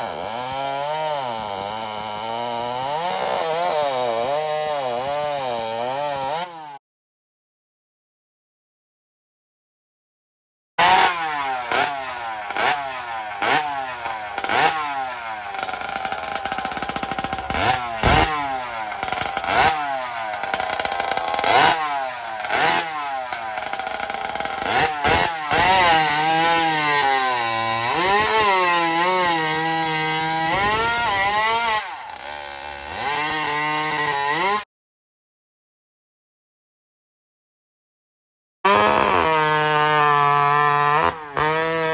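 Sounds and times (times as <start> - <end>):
two-stroke chainsaw revving: 0.0 - 6.8, 10.8 - 34.7, 38.7 - 41.9.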